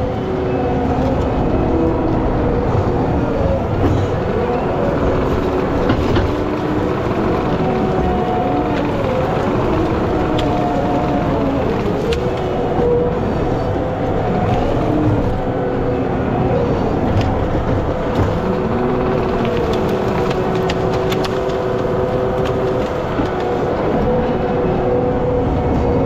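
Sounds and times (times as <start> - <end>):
diesel engine under load: 0.0 - 26.0
hydraulic whine: 0.0 - 26.0
wood and debris cracking: 0.7 - 24.3.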